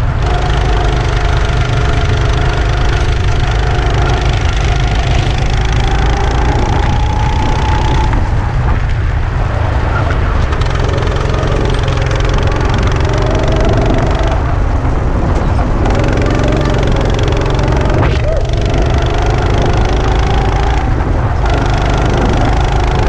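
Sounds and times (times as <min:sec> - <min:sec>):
go-kart engine running hard: 0:00.0 - 0:23.0
wind rushing over microphone: 0:00.0 - 0:23.0.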